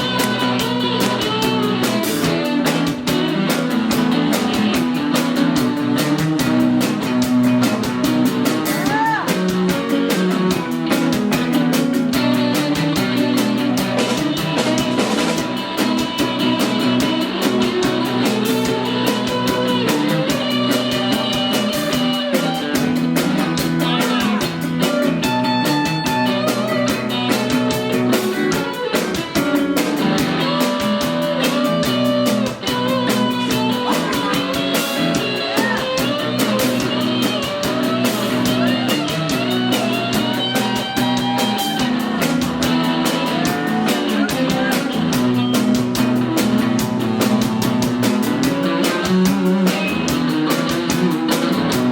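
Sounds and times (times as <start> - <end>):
reggae-rock guitar song: 0.0 - 51.9.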